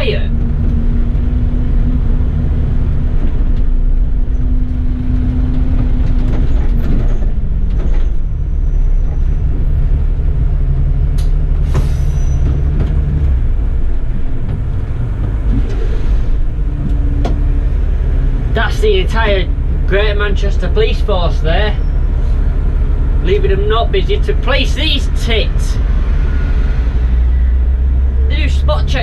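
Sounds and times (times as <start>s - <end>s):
bus engine: 0.0s - 29.0s.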